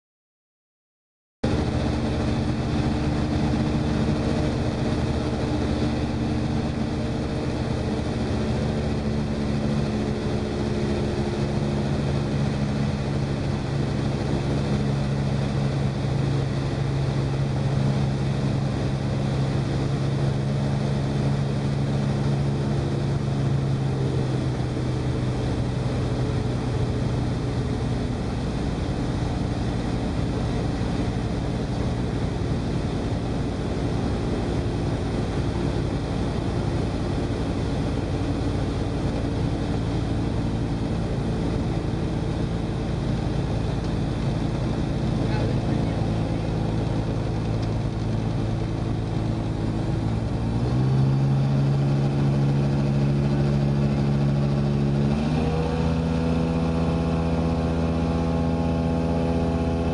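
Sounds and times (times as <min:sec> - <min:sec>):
aircraft engine and propeller droning: 0:01.4 - 0:59.9.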